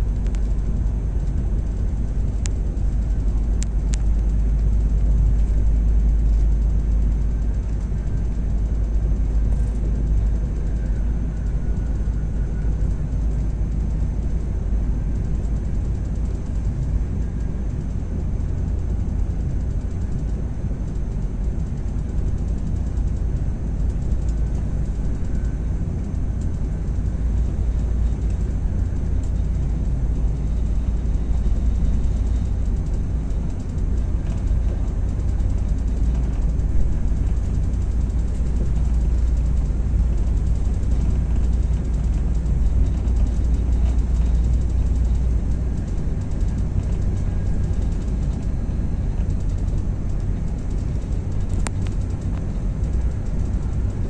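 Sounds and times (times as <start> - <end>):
train rumbling from inside carriage: 0.0 - 54.0.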